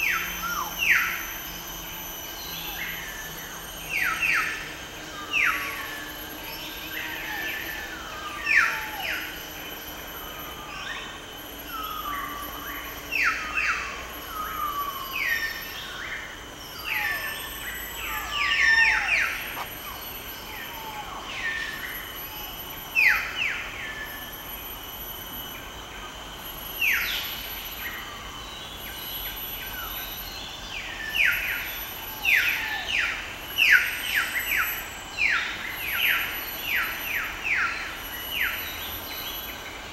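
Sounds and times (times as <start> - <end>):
forest birds calling: 0.0 - 39.9
steady high-pitched drone: 0.0 - 39.9.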